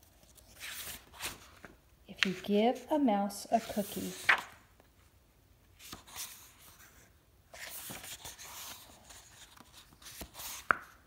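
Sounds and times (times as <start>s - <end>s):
book pages rustling: 0.0s - 4.6s, 5.7s - 11.0s.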